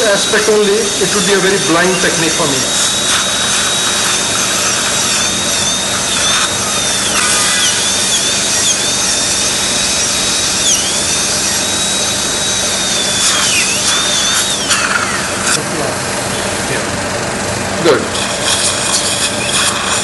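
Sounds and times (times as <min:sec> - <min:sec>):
dental handpiece whining: 0:00.0 - 0:17.0, 0:17.9 - 0:20.0.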